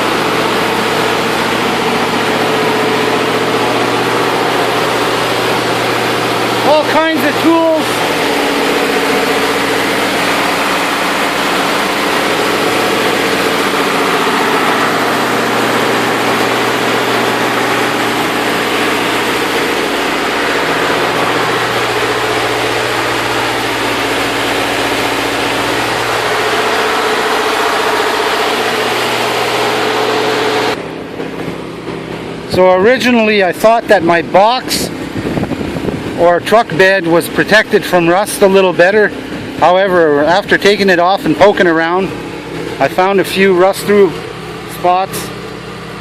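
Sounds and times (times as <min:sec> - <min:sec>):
diesel generator engine running: 0:00.0 - 0:46.0.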